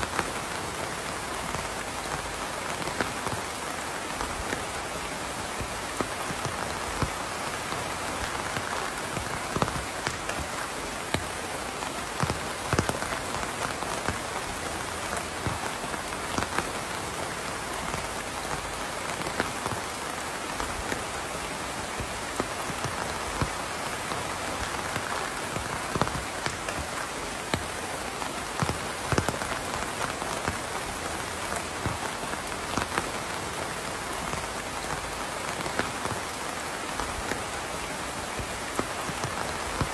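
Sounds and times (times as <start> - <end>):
raindrops pattering on a surface: 0.0 - 39.9
steady rain falling: 0.0 - 39.9.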